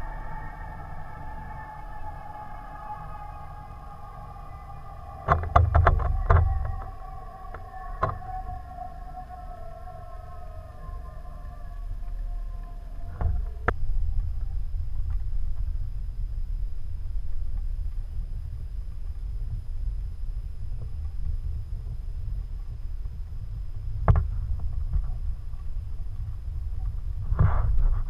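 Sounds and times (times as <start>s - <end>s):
faint humming tones: 0.0s - 28.0s
muffled underwater rumble: 0.0s - 28.0s.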